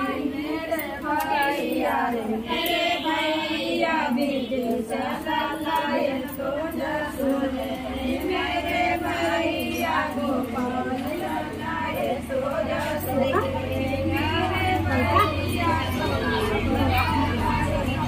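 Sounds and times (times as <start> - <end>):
women singing together: 0.0 - 18.0.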